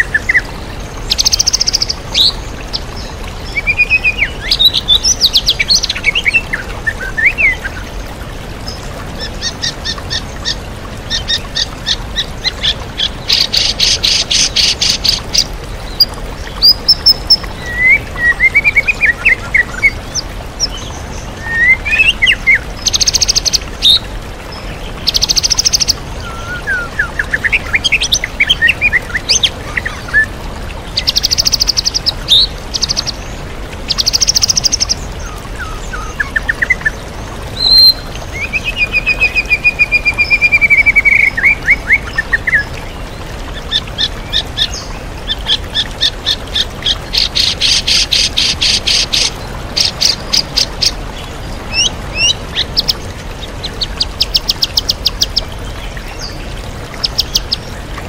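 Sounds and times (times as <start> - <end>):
bird singing trills and warbles: 0.0 - 58.0
waterfall rushing: 0.0 - 58.0.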